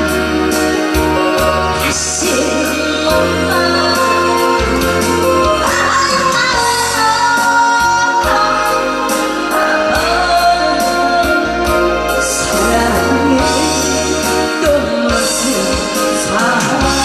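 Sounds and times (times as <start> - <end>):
music with steady beat: 0.0 - 17.0
woman singing: 0.0 - 17.0.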